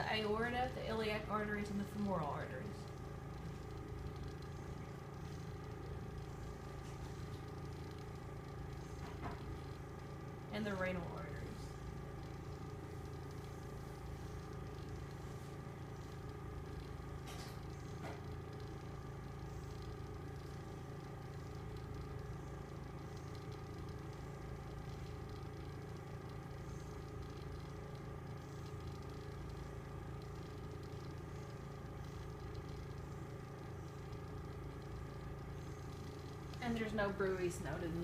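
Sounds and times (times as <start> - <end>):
low room hum with tones: 0.0 - 38.0.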